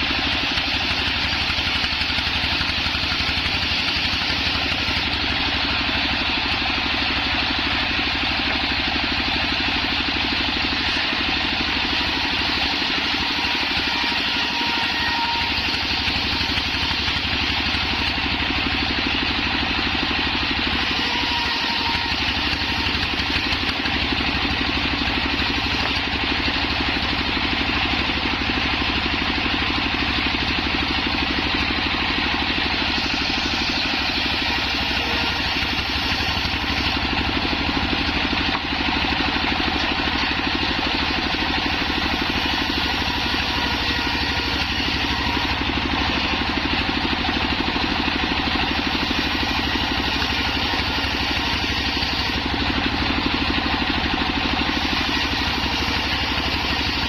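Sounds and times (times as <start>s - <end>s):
circular saw running: 0.0s - 57.0s.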